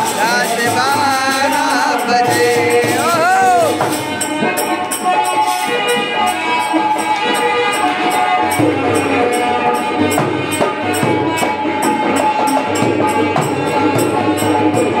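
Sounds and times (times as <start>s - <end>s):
hand drum: 0.0s - 15.0s
jingling percussion: 0.0s - 15.0s
keyboard playing organ-like notes: 0.0s - 15.0s.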